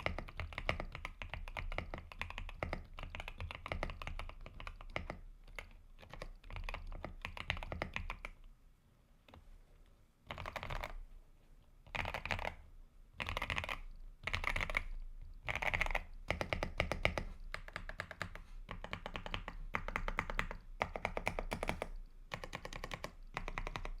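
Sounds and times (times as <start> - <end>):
mechanical keyboard typing: 0.0 - 8.5, 10.3 - 11.0, 11.8 - 12.6, 13.2 - 24.0.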